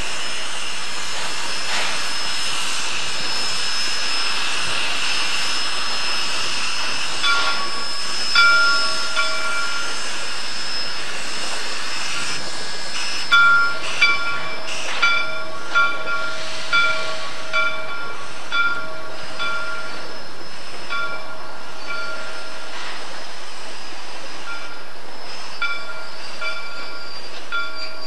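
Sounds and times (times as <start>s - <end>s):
steady steam hiss: 0.0s - 28.0s.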